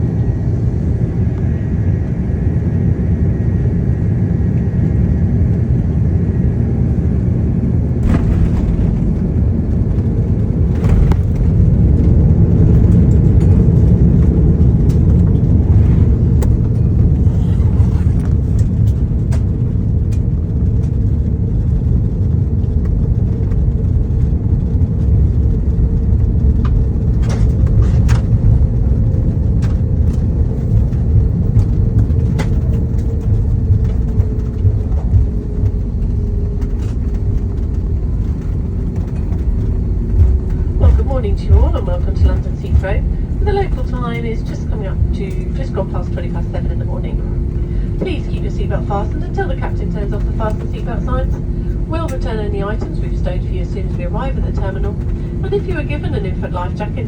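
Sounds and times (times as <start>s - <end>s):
airliner cabin engine rumble: 0.0s - 57.0s
runway rumble: 0.0s - 57.0s.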